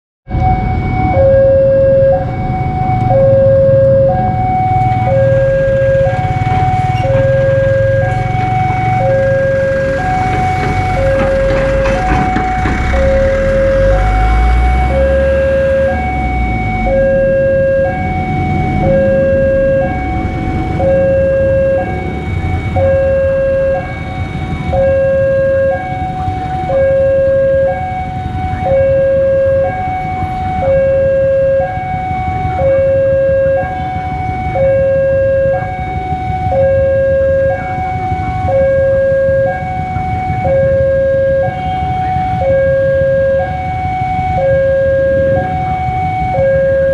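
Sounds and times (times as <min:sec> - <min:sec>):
traffic noise: 0:00.3 - 0:46.9
truck engine rumbling: 0:00.3 - 0:46.9
two-tone level crossing alarm: 0:00.3 - 0:46.9.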